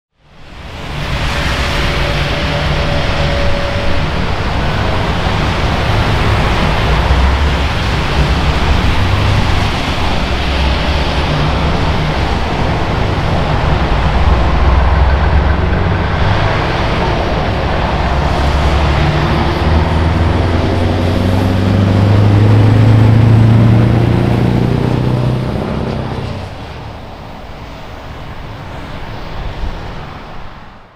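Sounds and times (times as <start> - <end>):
vehicles passing on wet road: 0.2 - 30.9
diesel truck engine accelerating: 0.4 - 28.9.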